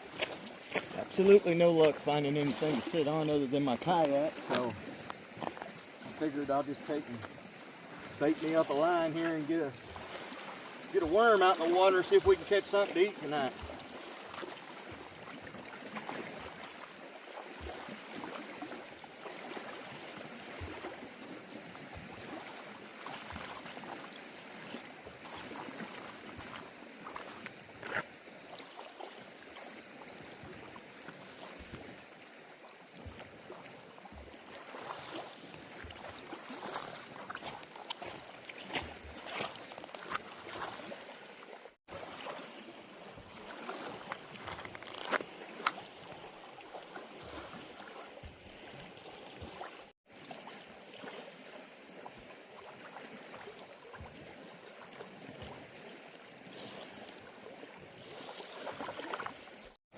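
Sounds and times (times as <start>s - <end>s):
small waves lapping: 0.0s - 59.9s.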